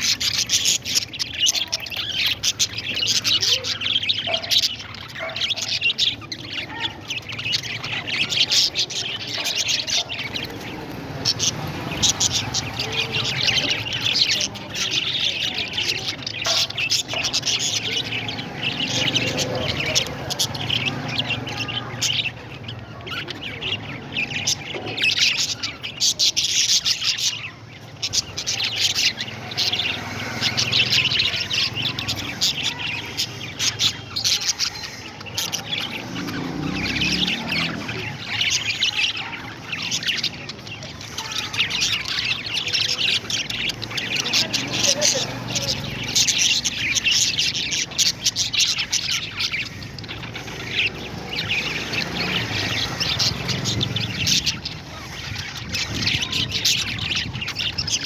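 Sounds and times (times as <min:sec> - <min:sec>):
parrots chirping: 0:00.0 - 0:58.0.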